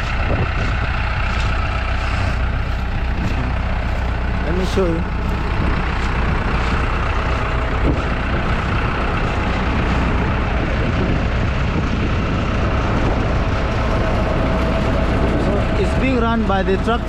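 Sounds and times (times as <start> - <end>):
machinery drone: 0.0 - 17.0
tractor engine running: 0.0 - 17.0.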